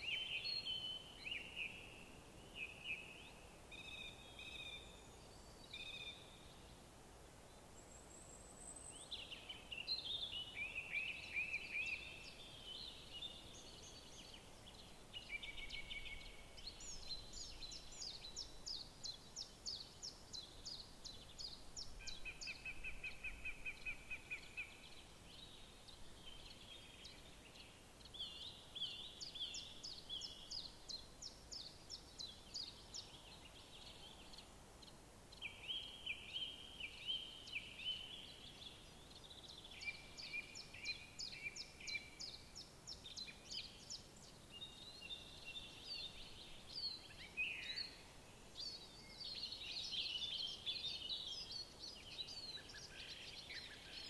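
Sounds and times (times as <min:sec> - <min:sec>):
songbirds singing: 0:00.0 - 0:06.8, 0:07.4 - 0:54.0
faint steady hiss: 0:00.0 - 0:54.0.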